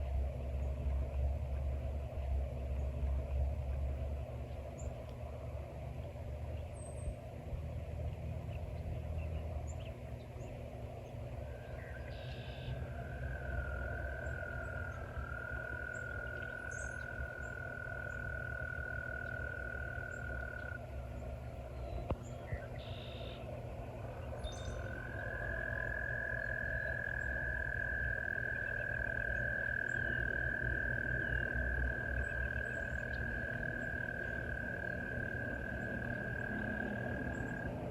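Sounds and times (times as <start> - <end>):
faint low rumble: 0.0 - 37.9
frogs trilling: 0.0 - 37.9.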